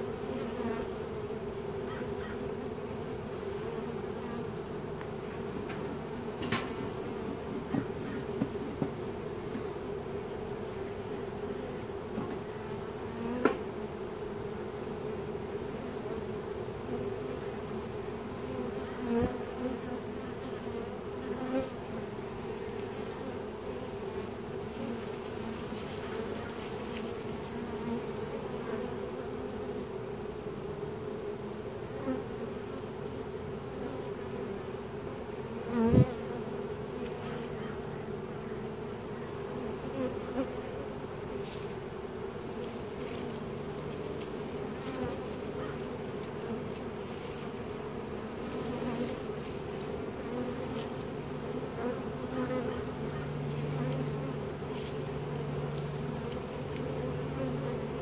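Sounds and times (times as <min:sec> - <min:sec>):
bee swarm humming: 0:00.0 - 0:58.0.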